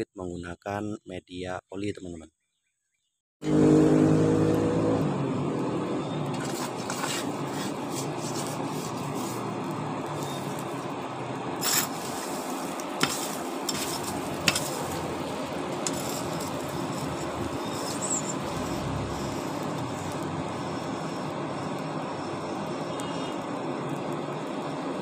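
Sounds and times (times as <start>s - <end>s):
forge fire roaring: 3.4s - 25.0s.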